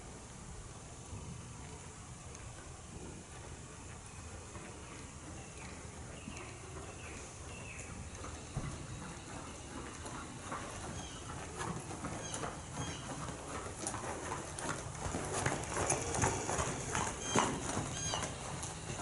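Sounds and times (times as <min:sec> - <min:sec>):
horse hoofbeats on sand: 0:02.9 - 0:19.0.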